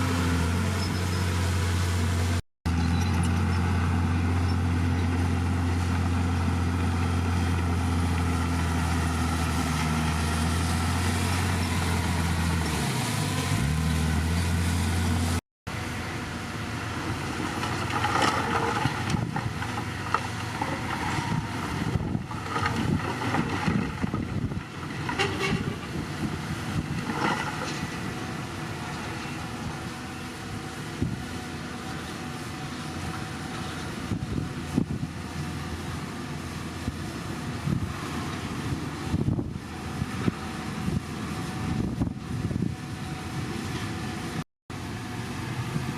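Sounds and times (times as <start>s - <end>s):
heavy diesel machinery running: 0.0s - 45.9s.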